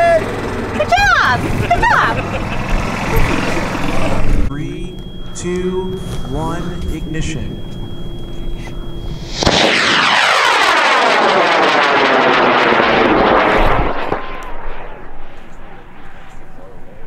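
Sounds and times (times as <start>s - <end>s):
rocket motor rushing roar: 0.0s - 17.0s.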